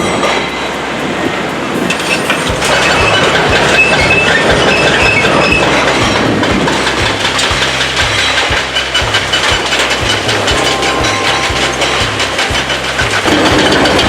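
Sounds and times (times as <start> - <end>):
construction machinery clatter: 0.0 - 14.0.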